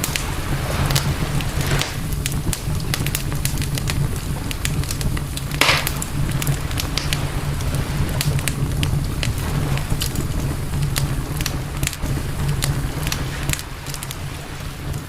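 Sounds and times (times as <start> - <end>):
campfire crackling: 0.0 - 15.0
hissing burst from fire: 0.0 - 15.0
low fire rumble: 0.0 - 15.0.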